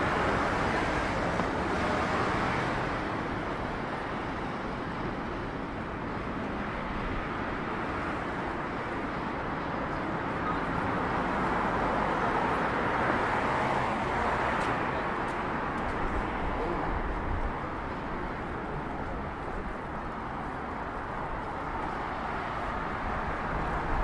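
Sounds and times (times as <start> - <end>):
city traffic rumble: 0.0 - 24.0.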